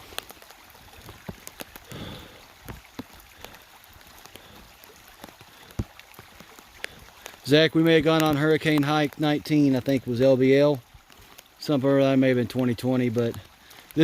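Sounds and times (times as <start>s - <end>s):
raindrops hitting close by: 0.0s - 14.0s
water running down a trail: 0.0s - 14.0s.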